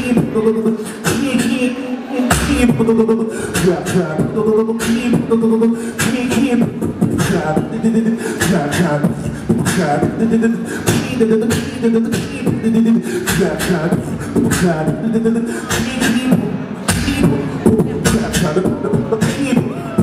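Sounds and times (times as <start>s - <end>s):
beatboxing snare and hi-hat hits: 0.0s - 1.6s, 2.3s - 20.0s.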